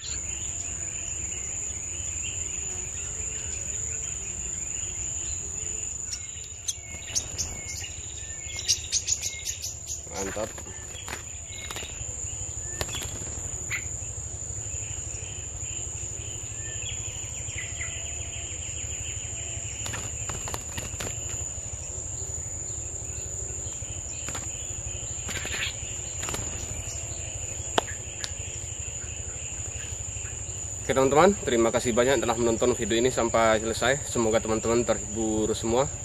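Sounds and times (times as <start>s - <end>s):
high-pitched insect drone: 0.0s - 36.0s
low insect buzzing trill: 0.0s - 36.0s.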